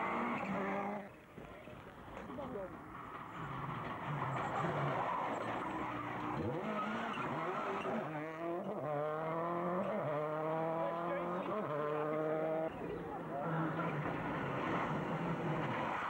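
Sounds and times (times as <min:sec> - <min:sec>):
rally car engine passing: 0:00.0 - 0:01.2, 0:02.9 - 0:16.0.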